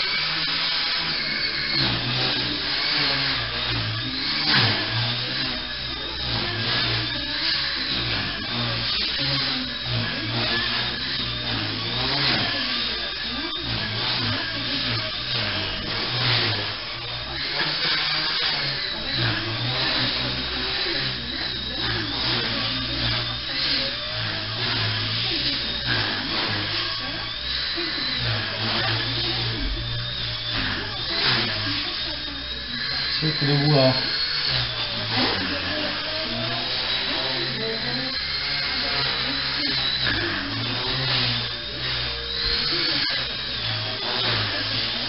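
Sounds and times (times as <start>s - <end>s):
electric motor whine: 0.0s - 45.0s
rotor buzz: 0.0s - 45.0s.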